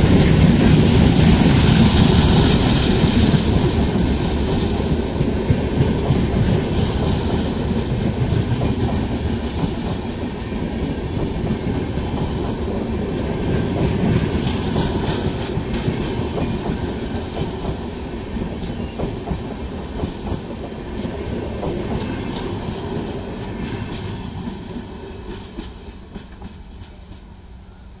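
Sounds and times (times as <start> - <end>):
train wheels clattering: 0.0 - 27.4.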